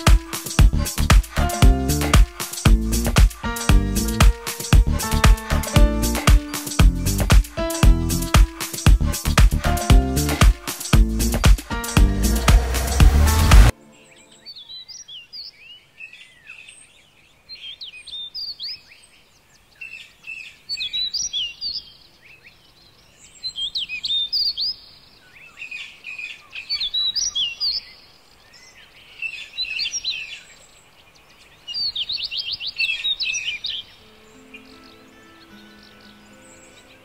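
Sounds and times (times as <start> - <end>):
birds chirping and trilling: 0.0 - 8.9, 13.7 - 37.0.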